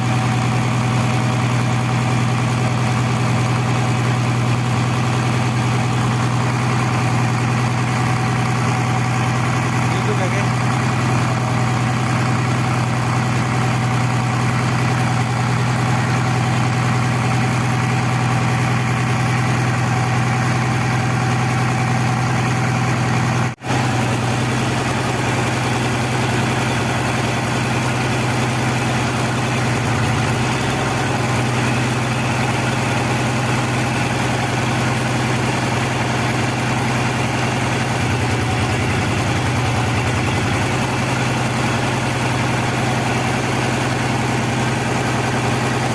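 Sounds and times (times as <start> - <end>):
forklift engine idling: 0.0 - 45.9.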